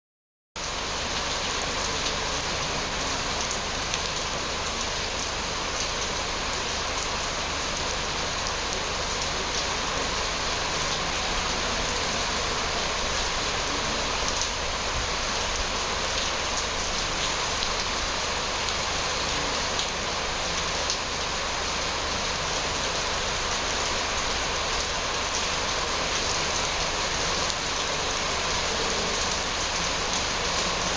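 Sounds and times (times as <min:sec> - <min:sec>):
steady rain falling: 0:00.6 - 0:30.9.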